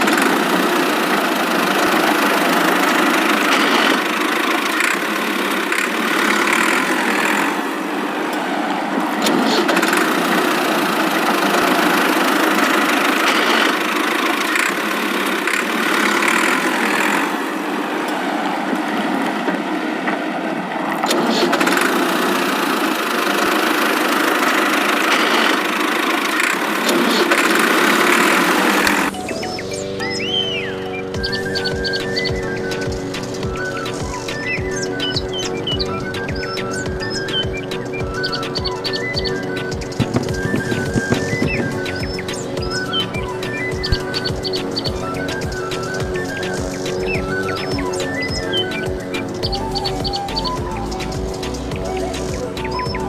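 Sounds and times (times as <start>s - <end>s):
toy truck motor running: 0.0s - 7.6s, 9.0s - 17.4s, 21.0s - 53.0s.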